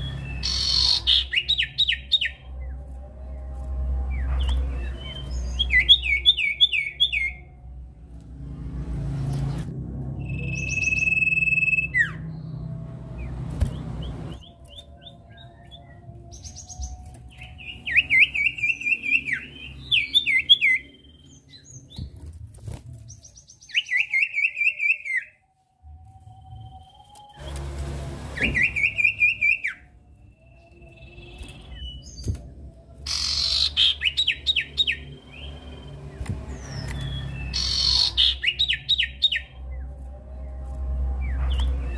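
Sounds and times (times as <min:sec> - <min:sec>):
low hum: 0:00.0 - 0:24.1, 0:25.4 - 0:41.9.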